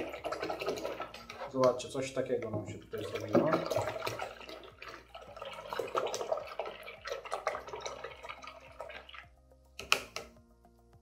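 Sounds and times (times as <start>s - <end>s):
water splashing and sloshing: 0.0s - 9.5s.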